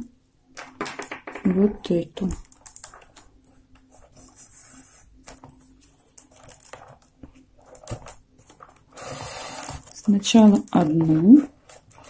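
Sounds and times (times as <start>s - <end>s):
faint steady hum: 0.0s - 12.0s
paper tubes rustling and clicking: 2.2s - 12.0s.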